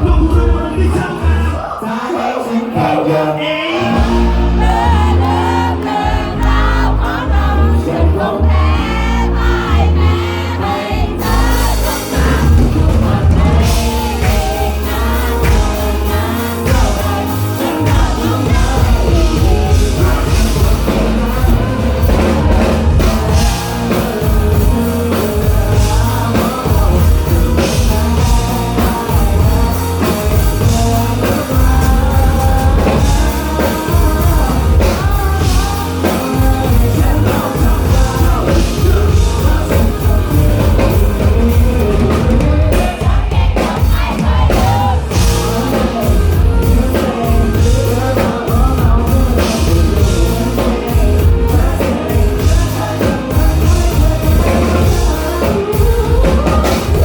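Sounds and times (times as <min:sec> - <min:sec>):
live rock band: 0:00.0 - 0:57.0
person singing: 0:00.0 - 0:57.0
drum kit with cymbals: 0:03.8 - 0:07.2, 0:08.6 - 0:57.0.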